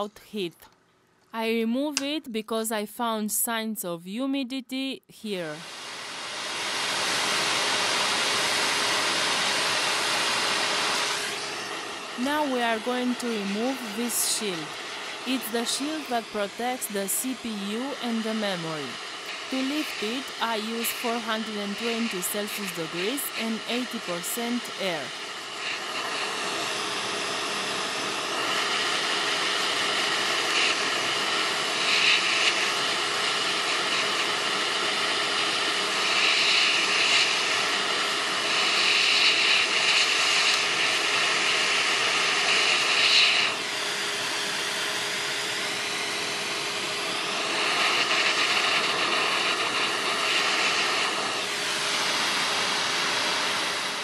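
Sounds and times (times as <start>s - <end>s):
hot air blower hissing: 5.6s - 54.0s.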